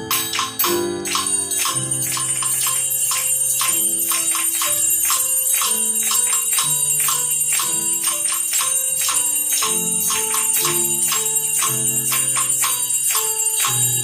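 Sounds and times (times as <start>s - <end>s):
sustained melody accompaniment: 0.0s - 14.0s
tambourines and jingle bells: 0.0s - 14.0s.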